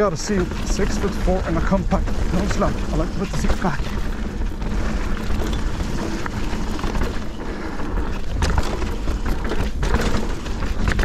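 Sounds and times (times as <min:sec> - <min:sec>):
bike frame and chain rattling: 0:00.0 - 0:11.0
bike knocking on bumps: 0:00.0 - 0:11.0
tyres rushing on dirt: 0:00.0 - 0:11.0.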